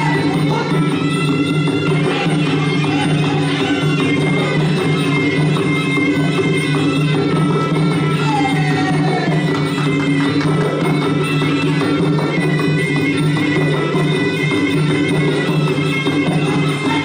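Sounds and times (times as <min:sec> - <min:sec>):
reed pipe wavering melody: 0:00.0 - 0:17.0
small hand cymbals: 0:00.0 - 0:17.0.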